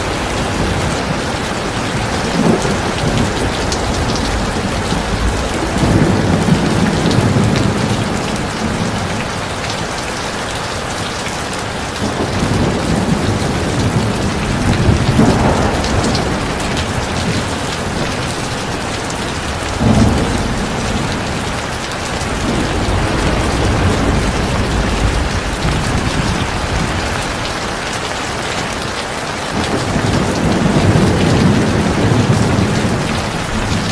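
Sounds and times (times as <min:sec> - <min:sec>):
thunder rumbling: 0:00.0 - 0:28.9, 0:29.5 - 0:33.9
heavy rain pouring: 0:00.0 - 0:33.9.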